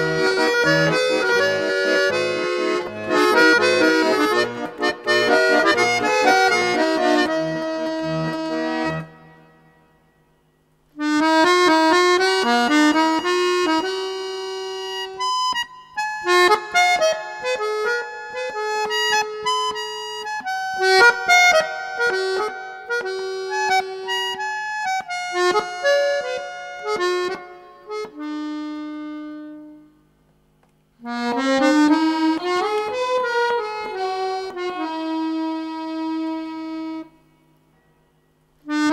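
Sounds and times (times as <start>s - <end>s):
instrumental music melody: 0.0s - 38.9s.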